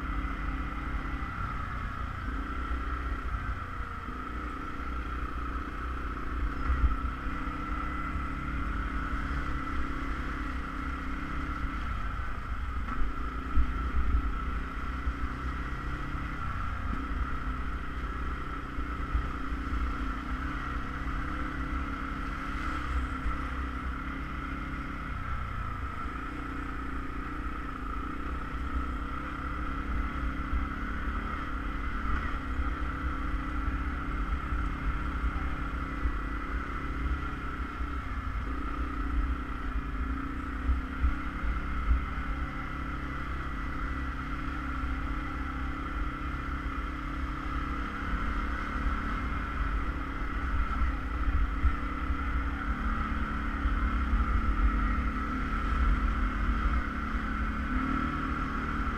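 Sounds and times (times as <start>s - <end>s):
atv engine rumble and whine: 0.0s - 58.9s.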